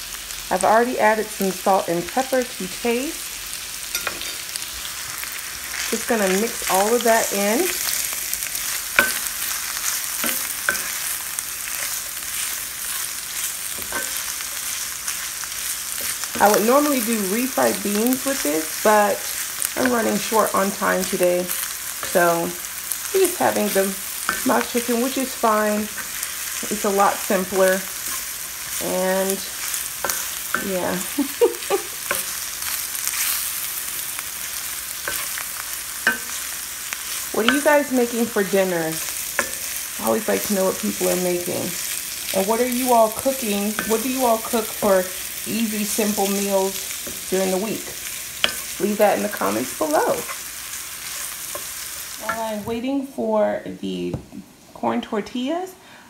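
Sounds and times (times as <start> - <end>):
food sizzling in oil: 0.0 - 53.3.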